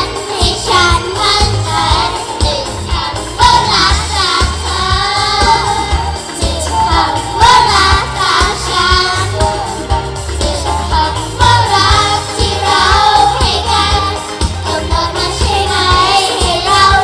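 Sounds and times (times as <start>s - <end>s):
backing track with bass beat: 0.0s - 17.0s
girls singing pop song: 0.0s - 17.0s.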